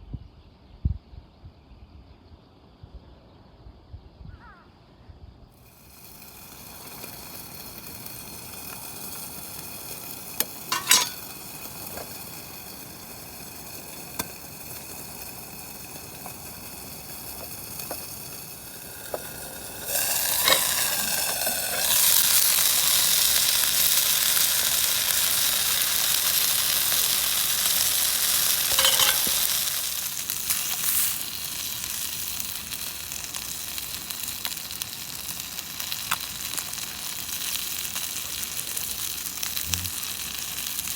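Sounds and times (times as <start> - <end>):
food sizzling in a pan: 5.6 - 40.9.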